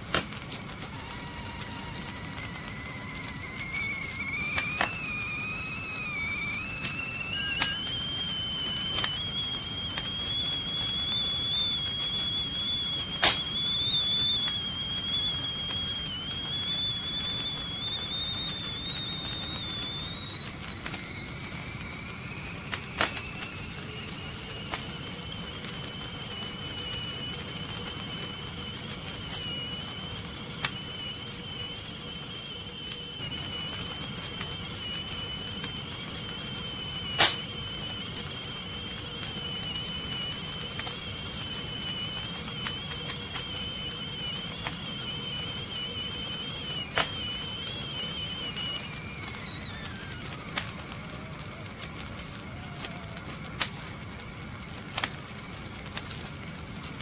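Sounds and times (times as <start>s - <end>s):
gas flame rushing: 0.0s - 53.7s
tea kettle whistling: 0.0s - 57.0s.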